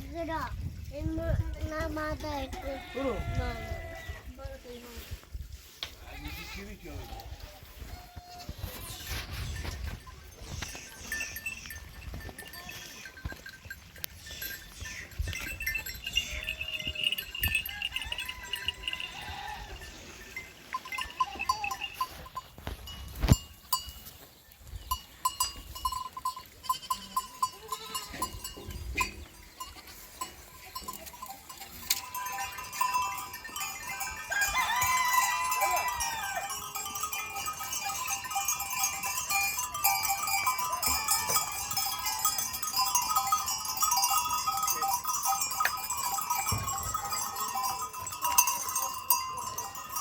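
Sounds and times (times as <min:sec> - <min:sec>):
livestock bells clinking: 0:00.0 - 0:50.0
sheep and goats bleating: 0:01.4 - 0:04.5, 0:05.9 - 0:22.5, 0:25.4 - 0:50.0.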